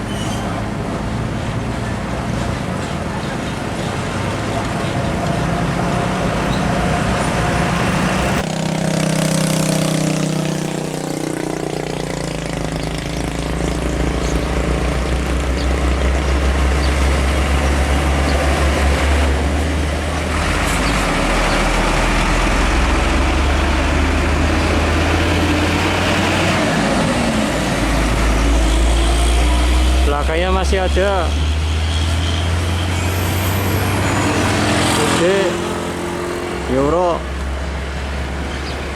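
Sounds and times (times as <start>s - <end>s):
heavy diesel trucks driving past: 0.0s - 38.9s.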